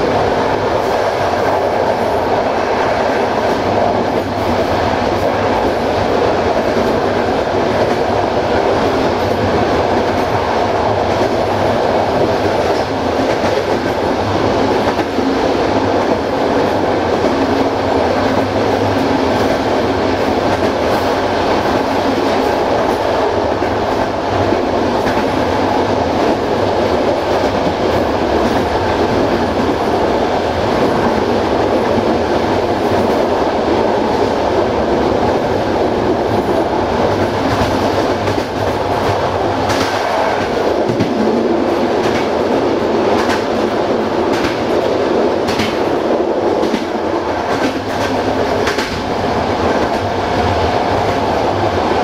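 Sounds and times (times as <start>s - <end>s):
train wheels rolling on rails: 0.0s - 52.0s.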